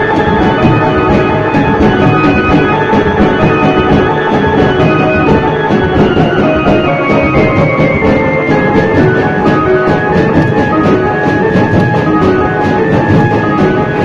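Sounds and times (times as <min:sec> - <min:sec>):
held pitched tones: 0:00.0 - 0:14.0
procession drums beating: 0:00.0 - 0:14.0.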